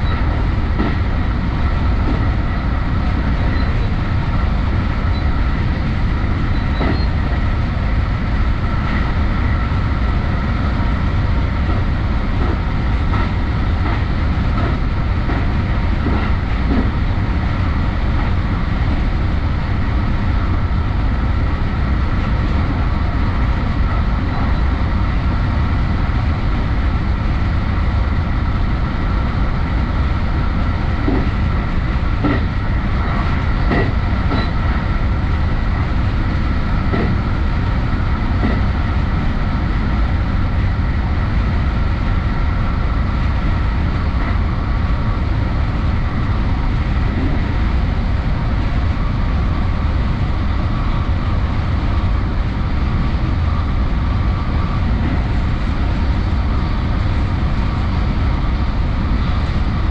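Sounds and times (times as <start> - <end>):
faint train whine: 0.0 - 59.9
train low rumble: 0.0 - 59.9.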